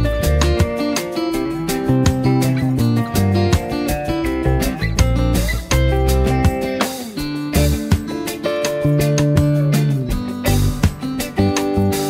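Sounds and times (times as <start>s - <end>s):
guitar music with drum beat: 0.0s - 12.0s.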